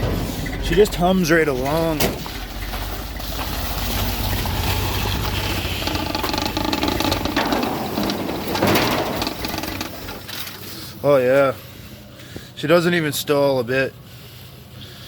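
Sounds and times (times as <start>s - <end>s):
truck engine idling: 0.0s - 12.2s.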